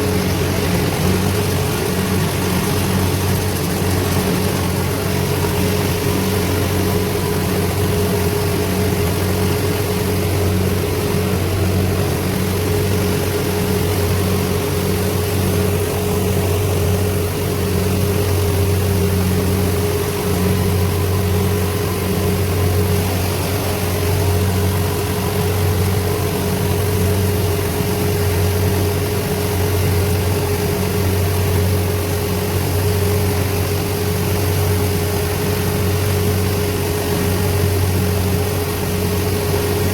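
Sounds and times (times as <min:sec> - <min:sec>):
farm machinery engine droning: 0:00.0 - 0:39.9.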